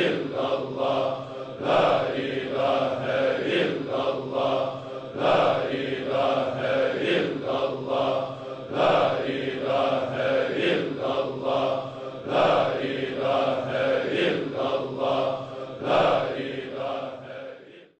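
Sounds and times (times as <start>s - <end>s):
person chanting: 0.0s - 17.9s.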